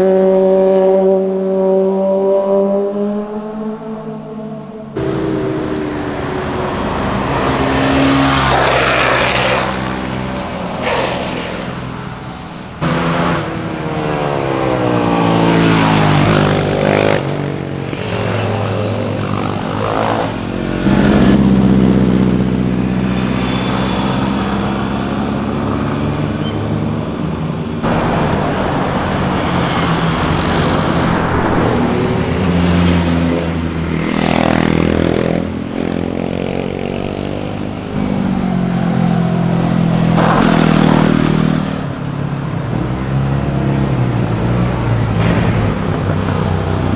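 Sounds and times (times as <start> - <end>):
motorcycles passing revving: 0.0 - 46.9.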